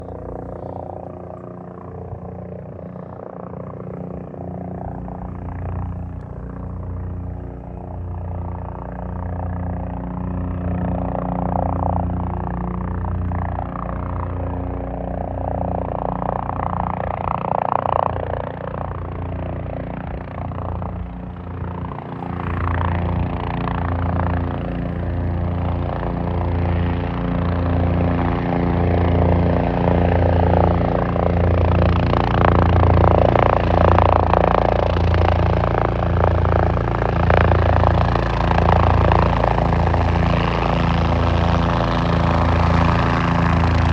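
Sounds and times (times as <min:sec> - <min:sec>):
helicopter rotor and engine: 0:00.0 - 0:43.9.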